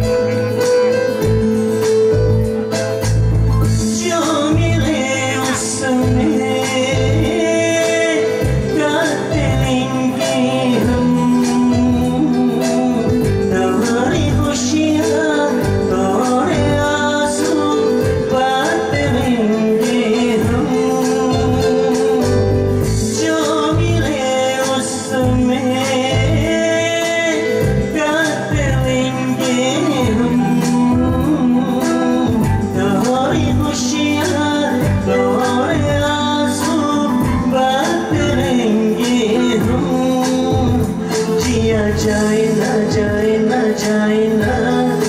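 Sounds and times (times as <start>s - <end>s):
electronic keyboard with beat: 0.0s - 45.0s
man singing into microphone: 0.0s - 45.0s.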